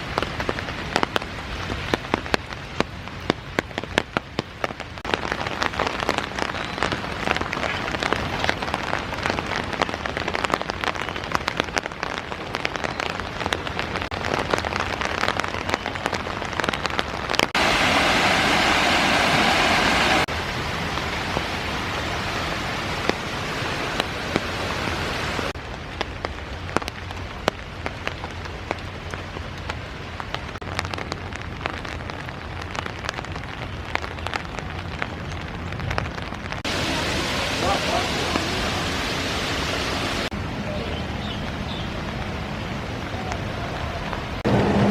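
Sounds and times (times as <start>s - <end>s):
raindrops pattering: 0.0s - 44.9s
rush of water: 0.0s - 44.9s.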